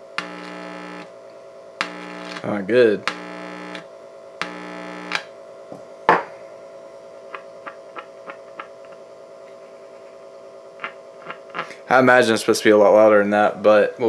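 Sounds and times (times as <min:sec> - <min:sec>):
amplifier hum and buzz: 0:00.0 - 0:14.0.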